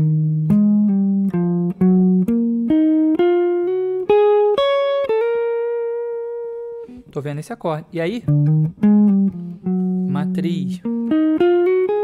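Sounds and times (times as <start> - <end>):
electric guitar single-note lick: 0.0 - 7.1, 8.2 - 12.0.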